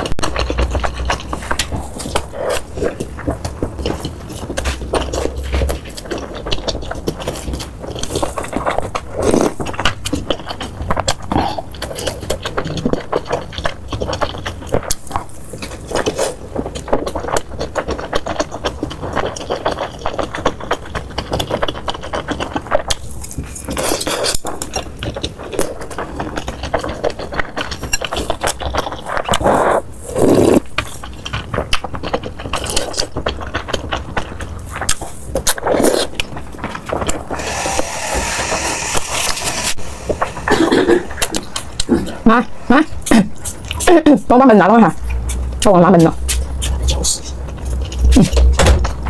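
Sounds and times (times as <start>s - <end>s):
chewing and crunching: 0.0s - 49.0s.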